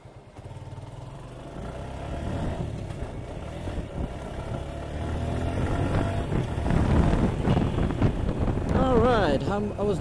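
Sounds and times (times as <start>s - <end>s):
motorcycle engine moving off: 0.0s - 10.0s.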